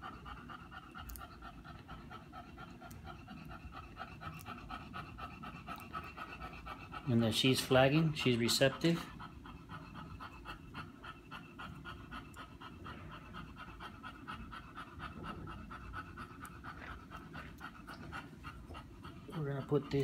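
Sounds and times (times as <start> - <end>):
dog panting fast: 0.0 - 20.0.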